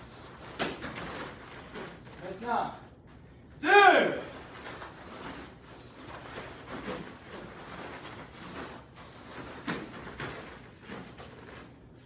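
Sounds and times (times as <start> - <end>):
bare feet on foam mats: 0.0 - 12.0
uniforms rustling: 0.0 - 12.0.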